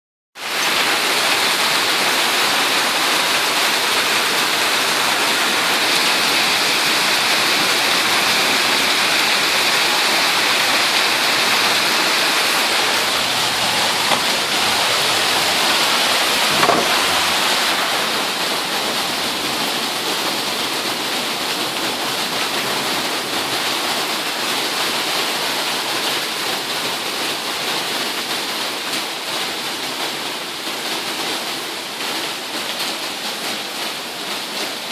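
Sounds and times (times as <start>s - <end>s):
hail and rain pelting down: 0.4s - 34.9s.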